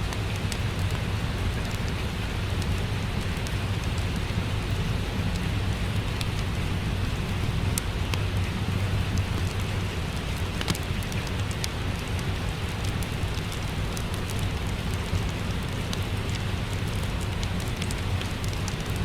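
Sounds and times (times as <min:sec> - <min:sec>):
crackling fireplace: 0:00.0 - 0:19.0
steady rain: 0:00.0 - 0:19.0.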